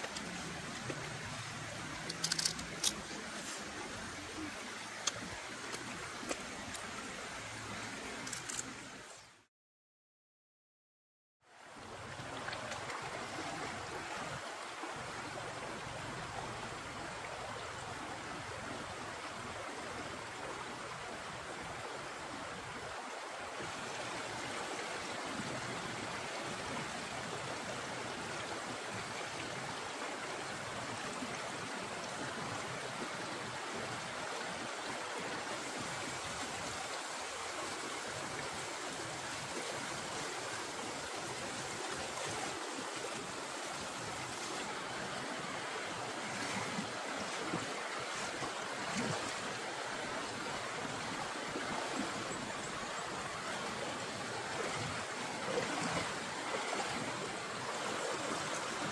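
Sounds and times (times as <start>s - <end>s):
stream flowing over rocks: 0.0s - 9.5s, 11.5s - 58.9s.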